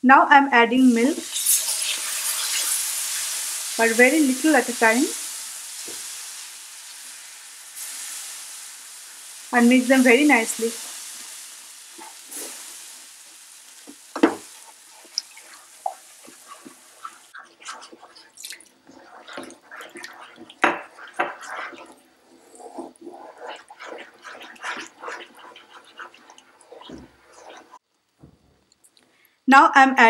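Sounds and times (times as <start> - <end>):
soft sizzle: 0.0 - 29.5
wooden spoon scraping a pan: 1.0 - 27.8.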